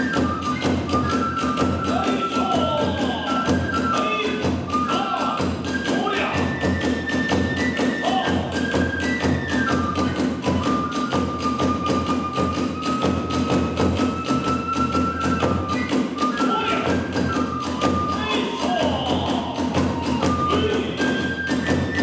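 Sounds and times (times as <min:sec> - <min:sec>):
bamboo flute long notes: 0:00.0 - 0:22.0
rapid drum beats: 0:00.0 - 0:22.0.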